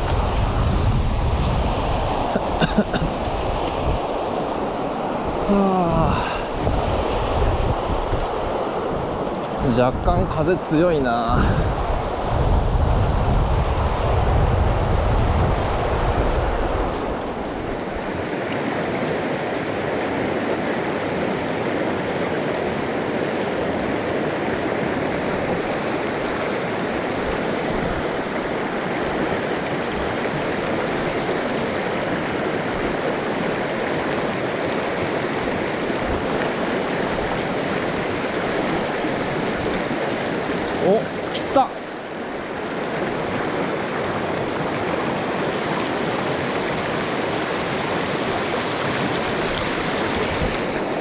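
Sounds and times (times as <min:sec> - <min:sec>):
wind buffeting microphone: 0:00.0 - 0:19.3, 0:22.5 - 0:51.0
mountain stream rushing: 0:00.0 - 0:51.0.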